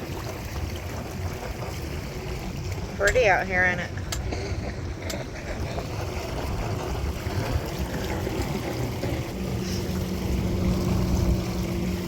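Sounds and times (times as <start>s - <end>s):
motorboat engine hum: 0.0s - 12.0s
water rumble: 0.0s - 12.0s
wind: 0.0s - 12.0s.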